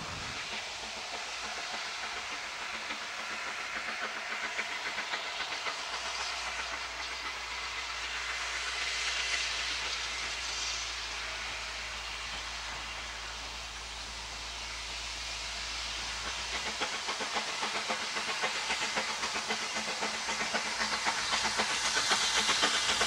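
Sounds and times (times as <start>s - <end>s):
steam train hissing and beating: 0.0s - 23.0s.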